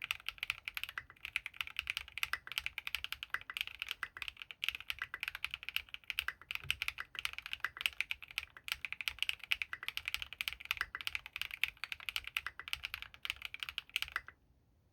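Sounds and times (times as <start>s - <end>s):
mechanical keyboard typing: 0.0s - 14.3s.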